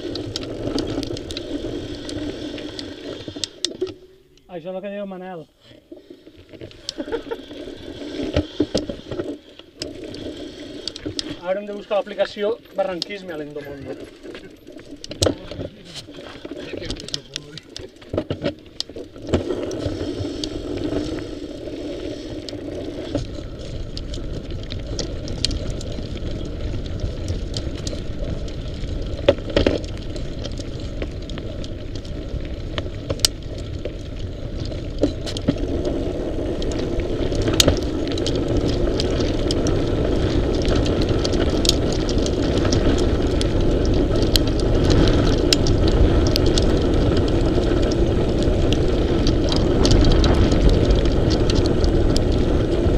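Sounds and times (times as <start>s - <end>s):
bike clicks and rattles: 0.0s - 4.0s, 6.5s - 52.9s
tyre and wind noise: 0.0s - 4.1s, 5.7s - 52.9s.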